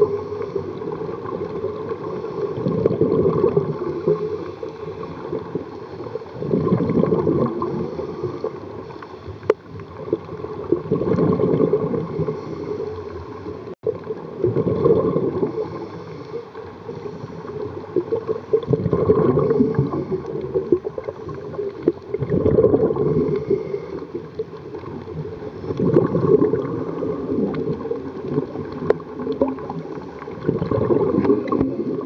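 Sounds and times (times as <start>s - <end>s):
exhaled bubbles gurgling underwater: 0.0s - 32.0s.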